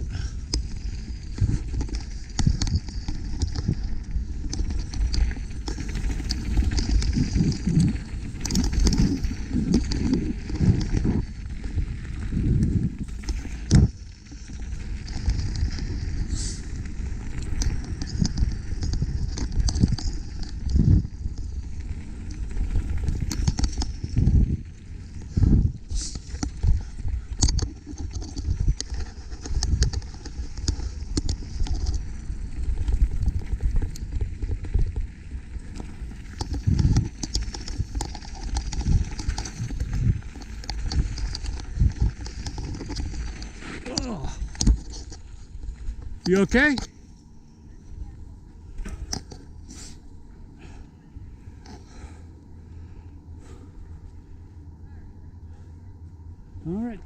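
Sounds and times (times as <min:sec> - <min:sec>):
bike rattling over bumps: 0:00.0 - 0:57.0
tyres on dirt: 0:00.0 - 0:57.0
wind rumbling on microphone: 0:00.0 - 0:57.0.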